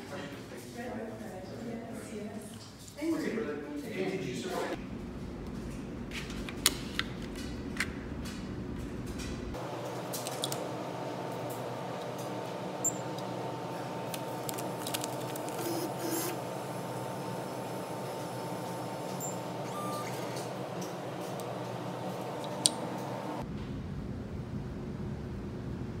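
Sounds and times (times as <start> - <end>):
machine hum: 4.8 - 26.0.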